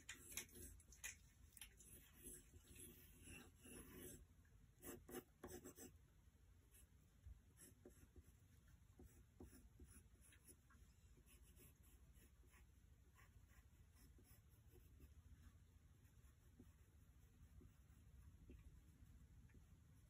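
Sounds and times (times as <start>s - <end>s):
pencil scratching on paper: 0.2s - 0.7s, 1.8s - 6.0s, 7.5s - 20.0s.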